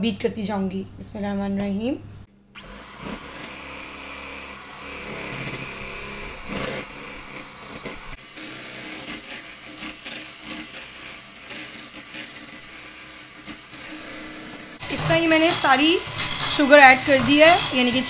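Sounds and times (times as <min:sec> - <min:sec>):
electric hand mixer whirring: 0:02.6 - 0:18.0.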